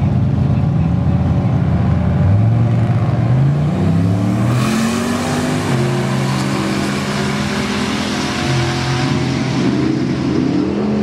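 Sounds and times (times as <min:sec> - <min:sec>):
drag racing engines accelerating: 0:00.0 - 0:11.0.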